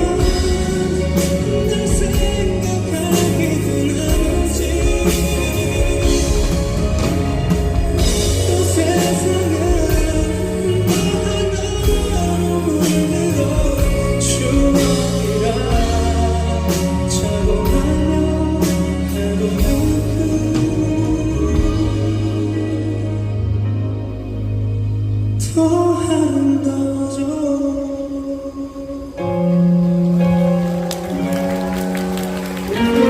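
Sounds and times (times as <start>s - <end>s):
person singing: 0.0s - 24.3s, 25.4s - 33.0s
live band playing pop ballad: 0.0s - 33.0s.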